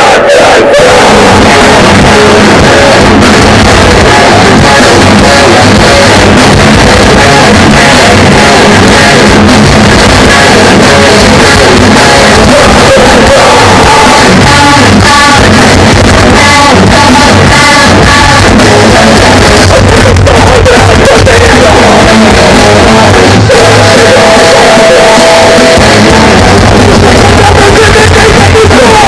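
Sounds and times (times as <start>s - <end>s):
person singing: 0.0s - 29.0s.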